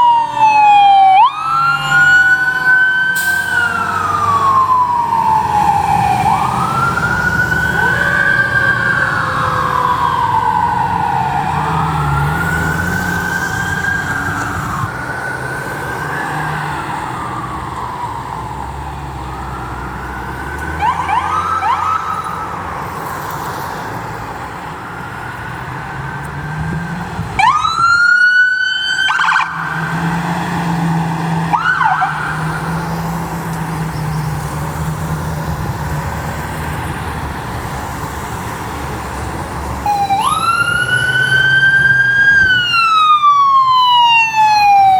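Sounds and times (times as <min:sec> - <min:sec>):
emergency vehicle sirens wailing: 0:00.0 - 0:44.9.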